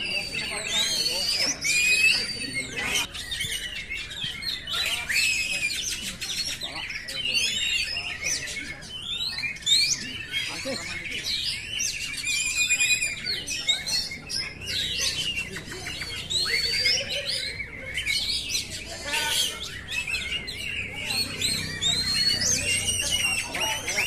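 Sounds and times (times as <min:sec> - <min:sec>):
bird singing whistles and trills: 0:00.0 - 0:24.0.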